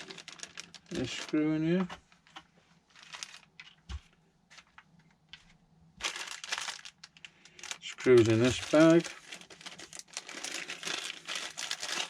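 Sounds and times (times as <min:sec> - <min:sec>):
plastic bag crinkling: 0:00.0 - 0:05.1, 0:06.0 - 0:12.0.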